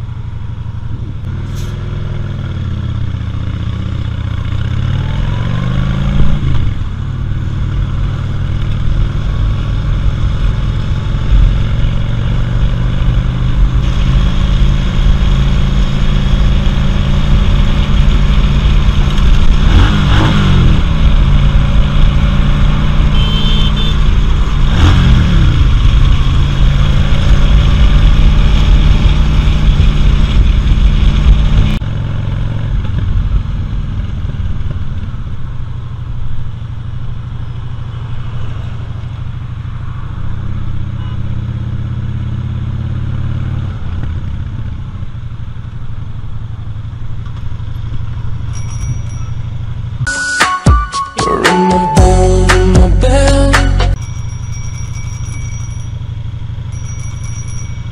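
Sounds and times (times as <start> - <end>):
motorcycle engine accelerating: 0.0 - 50.1.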